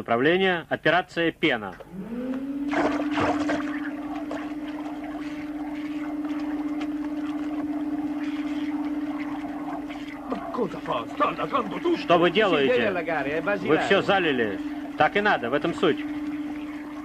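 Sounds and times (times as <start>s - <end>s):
vacuum cleaner motor whine: 1.8s - 17.0s
liquid gushing and gurgling: 2.7s - 17.0s.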